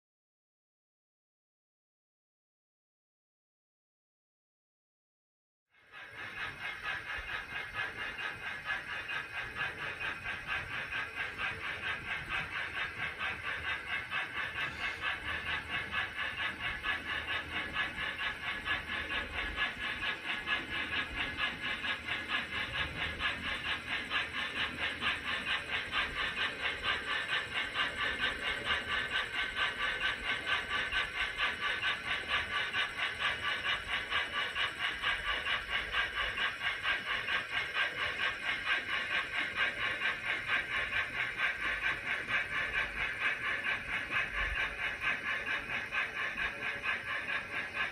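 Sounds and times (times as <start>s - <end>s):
model steam locomotive chuffing: 5.7s - 47.9s.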